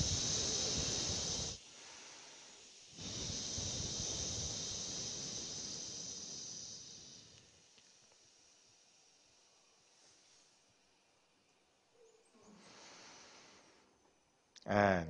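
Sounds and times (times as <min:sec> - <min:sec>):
breathy exhaled hissing heee: 0:00.0 - 0:10.7, 0:12.4 - 0:14.0
quiet inhale: 0:00.0 - 0:14.3.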